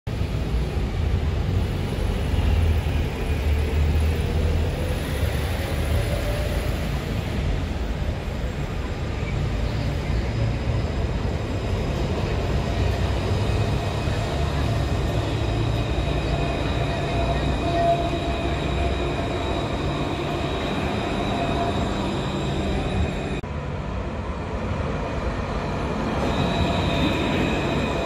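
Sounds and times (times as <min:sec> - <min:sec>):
buses: 0:00.1 - 0:28.0
city traffic rumble: 0:00.1 - 0:28.0
tram approaching: 0:00.1 - 0:28.0.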